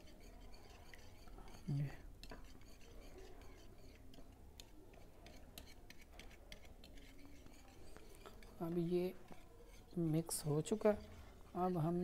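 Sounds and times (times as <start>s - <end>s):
whisk tapping a plate: 0.0s - 11.0s.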